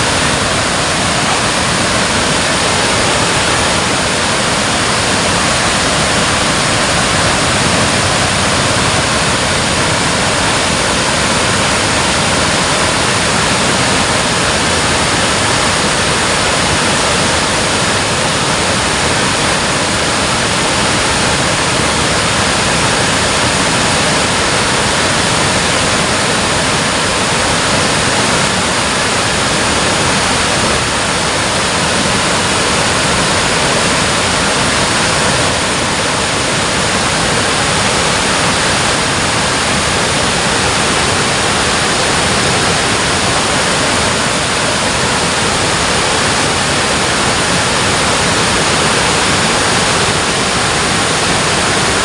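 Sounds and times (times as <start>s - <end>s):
water rushing through a dam: 0.0s - 52.0s.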